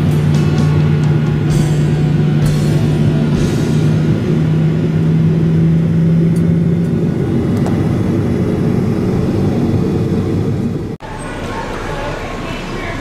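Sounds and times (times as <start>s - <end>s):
jet cabin low rumble: 0.0s - 11.0s
engine hum: 0.0s - 13.0s.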